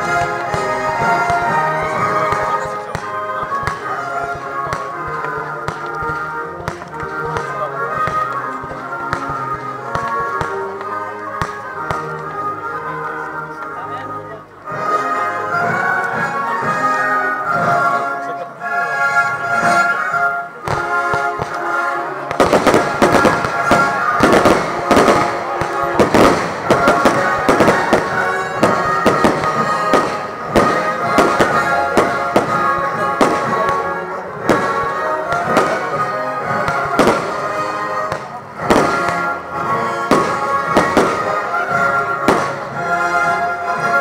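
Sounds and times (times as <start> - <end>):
fireworks bangs and crackles: 0.0 - 18.4, 19.2 - 44.0
music with sustained tones: 0.0 - 44.0.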